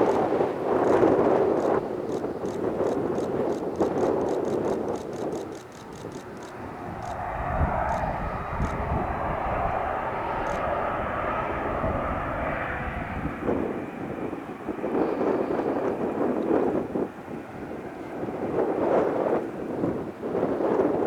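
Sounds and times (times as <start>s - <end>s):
jet engine rumble: 0.0s - 21.0s.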